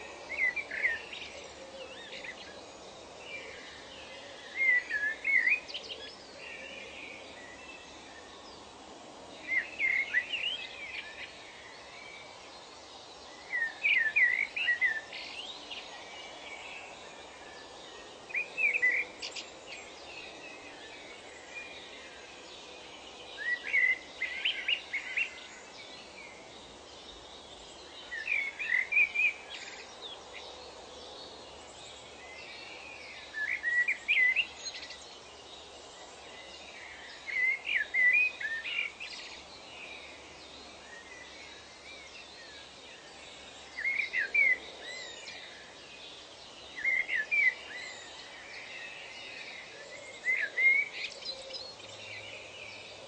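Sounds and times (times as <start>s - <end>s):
bird singing: 0.0s - 8.7s, 9.3s - 53.0s
outdoor ambient noise: 0.0s - 53.0s.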